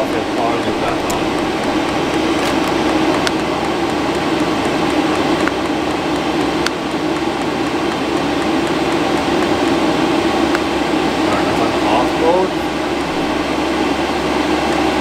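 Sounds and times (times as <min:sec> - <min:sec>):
diesel heater blower whooshing: 0:00.0 - 0:15.0.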